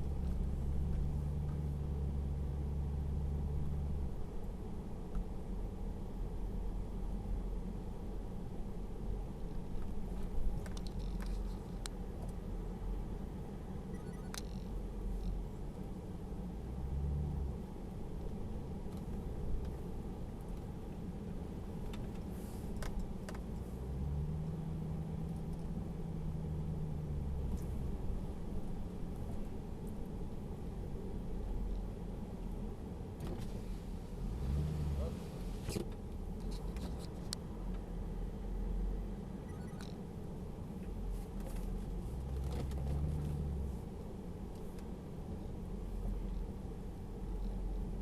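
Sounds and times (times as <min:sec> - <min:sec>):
low car rumble: 0:00.0 - 0:48.0.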